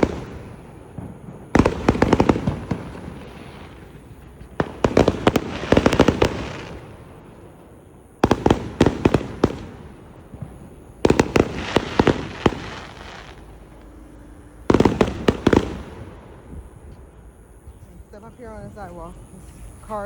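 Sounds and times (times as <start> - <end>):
fireworks popping and crackling: 0.0 - 17.7.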